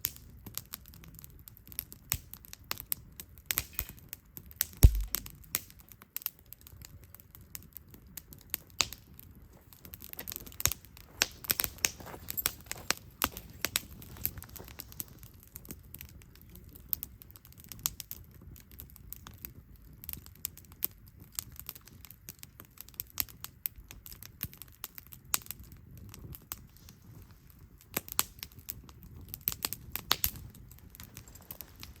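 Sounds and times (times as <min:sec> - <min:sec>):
campfire pops and snaps: 0:00.0 - 0:32.0
low rumble of burning fire: 0:00.0 - 0:32.0.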